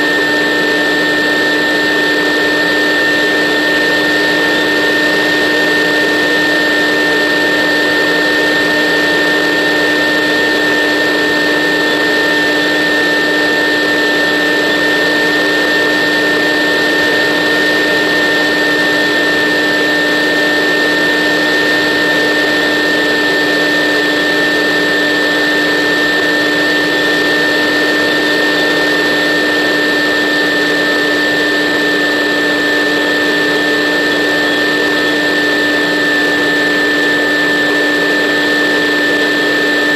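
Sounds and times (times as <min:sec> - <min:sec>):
model aircraft motor whine: 0:00.0 - 0:39.9.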